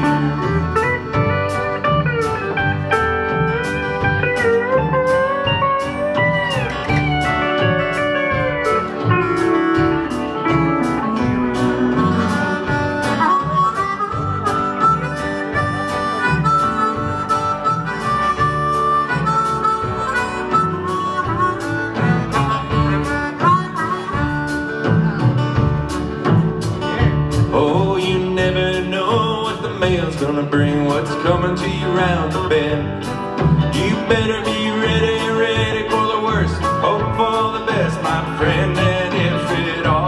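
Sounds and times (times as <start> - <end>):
bass guitar: 0.0 - 40.0
guitars: 0.0 - 40.0
harmonica melody: 0.0 - 40.0
steady drum beat: 0.0 - 40.0.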